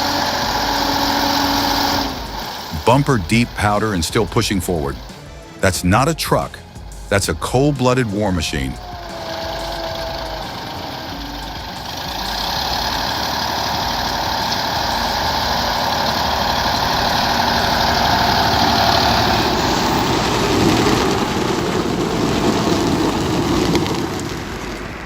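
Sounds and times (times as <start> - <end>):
heavy truck engine running: 0.0 - 25.0.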